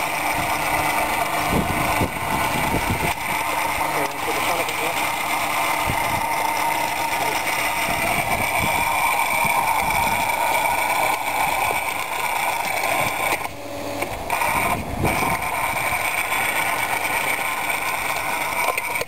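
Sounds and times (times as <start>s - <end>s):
hydraulic drive drone: 0.0s - 19.0s
rotary hoe tines churning soil: 0.0s - 19.0s.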